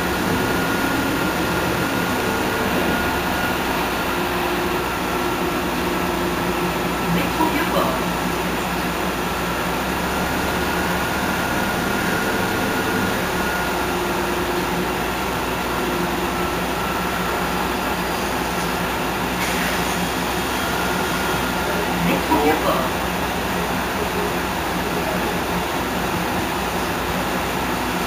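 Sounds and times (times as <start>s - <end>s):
bus engine idling: 0.0s - 28.0s.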